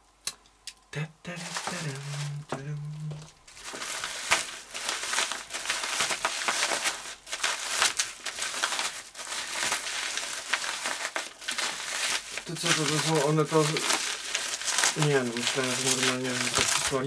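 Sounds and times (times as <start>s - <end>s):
bubble wrap crinkling: 1.3s - 17.0s.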